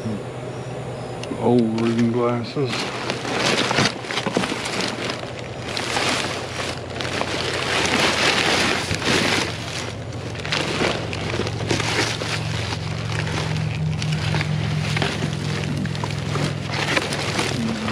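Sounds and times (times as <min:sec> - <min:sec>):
plastic and cardboard rustling: 0:01.6 - 0:17.9.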